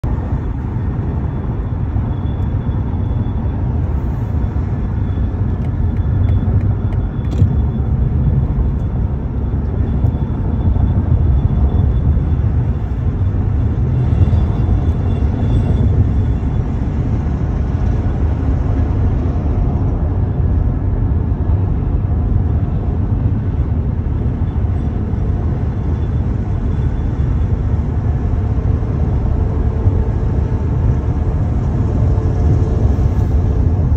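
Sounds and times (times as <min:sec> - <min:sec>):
tyres on road: 0:00.0 - 0:33.9
wind on car: 0:00.0 - 0:33.9.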